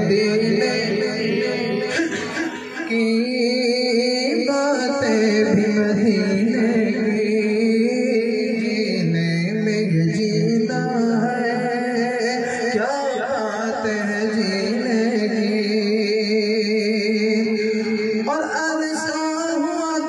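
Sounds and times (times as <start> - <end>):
man singing devotional song: 0.0 - 20.0.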